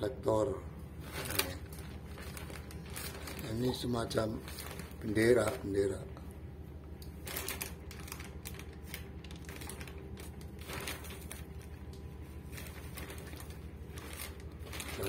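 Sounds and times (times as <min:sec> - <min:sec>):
steady low hum: 0:00.0 - 0:15.0
plastic wrapping crinkling: 0:01.0 - 0:06.2, 0:06.9 - 0:15.0.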